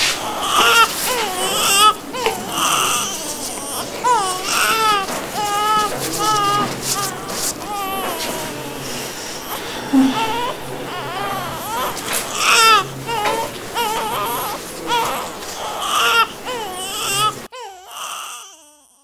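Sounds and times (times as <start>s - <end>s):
newborn baby crying: 0.1s - 19.0s.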